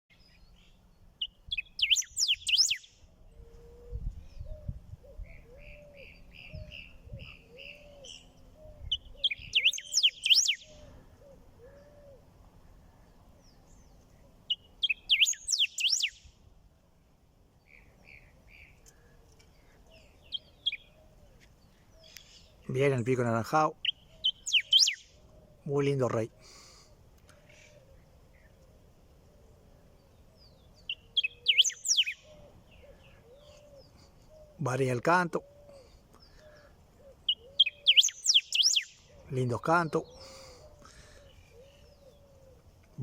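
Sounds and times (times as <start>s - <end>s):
bird singing warbled phrases: 0.1s - 16.4s, 17.6s - 43.0s
soft bird chirps: 0.1s - 16.4s, 17.6s - 26.3s, 27.2s - 43.0s.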